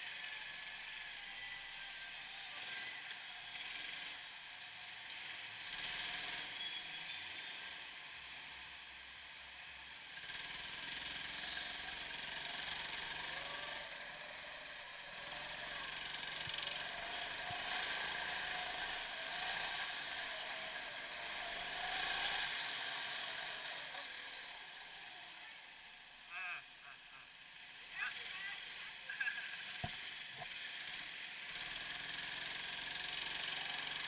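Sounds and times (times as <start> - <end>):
go-kart drive whir: 0.0 - 34.0.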